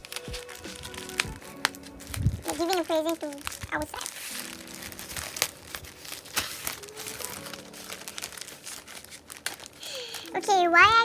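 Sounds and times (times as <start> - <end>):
packaging crinkling and tearing: 0.0 - 11.0.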